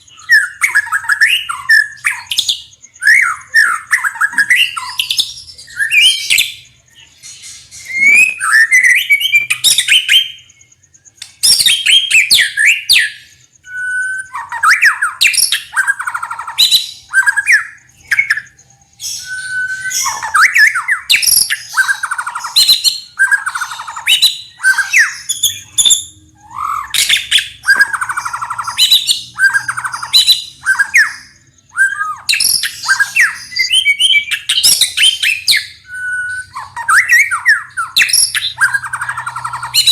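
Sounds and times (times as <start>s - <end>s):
songbird singing varied phrases: 0.0s - 39.9s.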